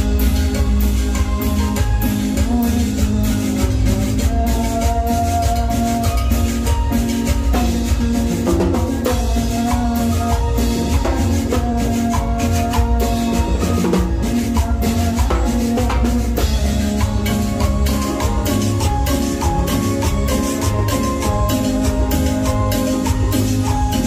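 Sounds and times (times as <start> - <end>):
keyboard melody: 0.0 - 24.0
percussion beat: 0.0 - 24.0
steady bass: 0.0 - 24.0.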